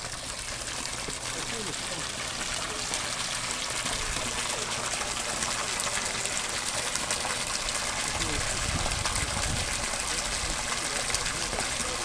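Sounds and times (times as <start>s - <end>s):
pumped water rushing and splashing: 0.0s - 12.0s.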